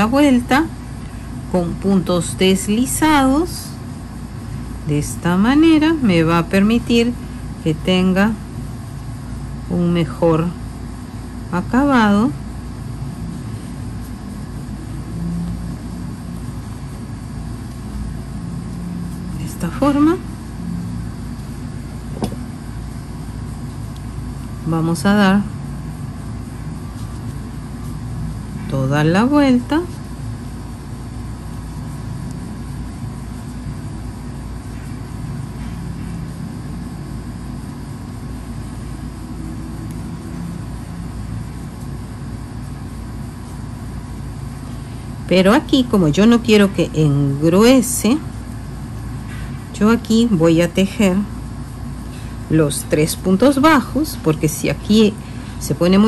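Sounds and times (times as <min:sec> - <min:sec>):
low mechanical rumble with hum: 0:00.0 - 0:56.0.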